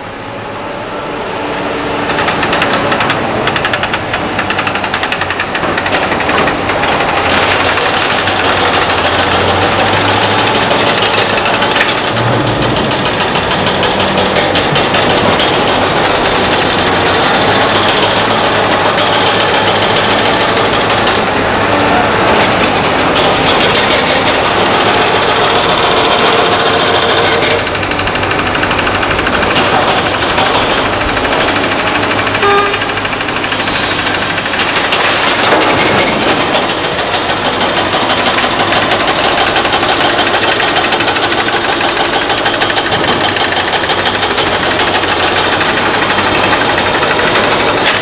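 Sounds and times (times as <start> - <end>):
diesel engines running: 0.0 - 48.0
hydraulic breaker hammering rock: 2.0 - 48.0.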